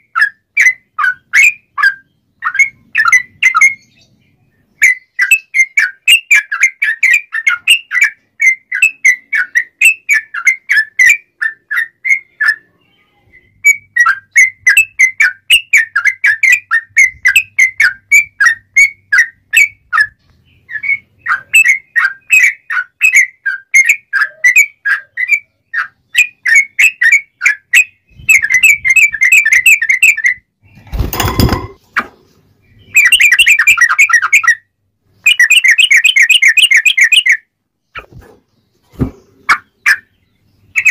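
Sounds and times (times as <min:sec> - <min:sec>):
bird singing whistled notes: 0:00.0 - 0:30.9, 0:32.6 - 0:37.5, 0:39.5 - 0:40.9.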